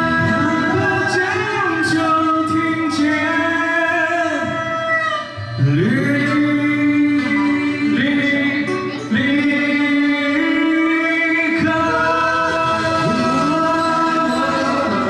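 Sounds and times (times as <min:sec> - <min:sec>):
karaoke backing track: 0:00.0 - 0:15.0
man singing into microphone: 0:00.0 - 0:15.0.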